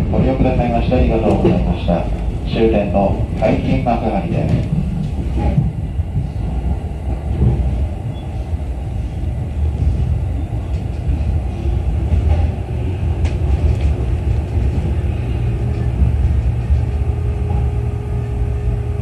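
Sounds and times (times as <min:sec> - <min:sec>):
train running rumble: 0:00.0 - 0:19.0.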